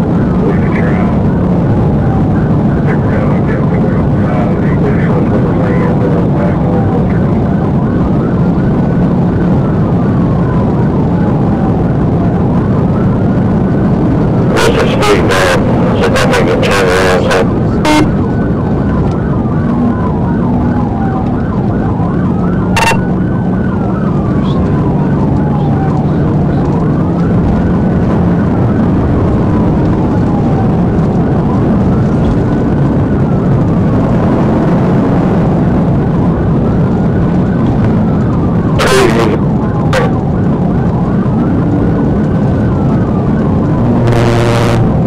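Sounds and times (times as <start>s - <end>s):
police siren wailing: 0.0s - 45.0s
road and engine noise: 0.0s - 45.0s.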